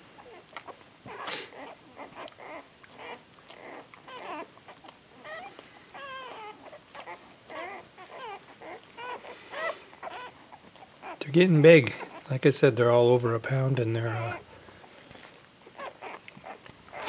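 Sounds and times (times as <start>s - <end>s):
puppies squeaking and crying: 0.1s - 17.0s.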